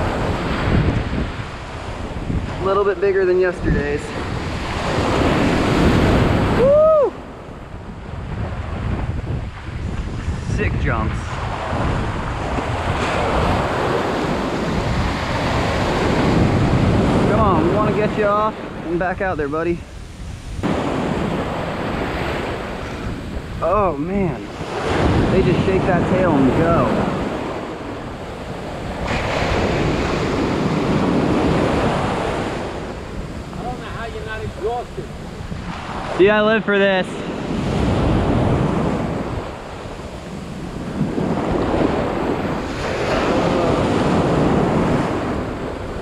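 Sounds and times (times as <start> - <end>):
ocean surf breaking: 0.0 - 46.0
wind buffeting microphone: 0.0 - 46.0.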